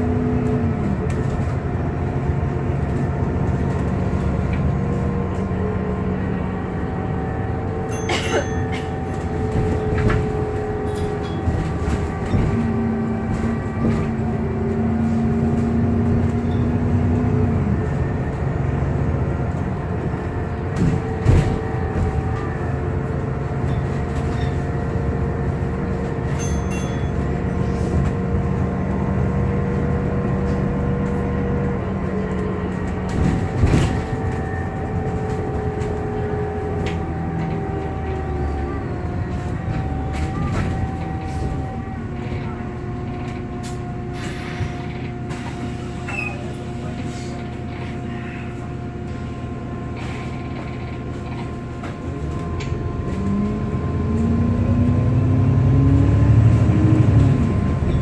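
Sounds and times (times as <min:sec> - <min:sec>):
bus whirring whine: 0:00.0 - 0:58.0
engine and road rumble: 0:00.0 - 0:58.0.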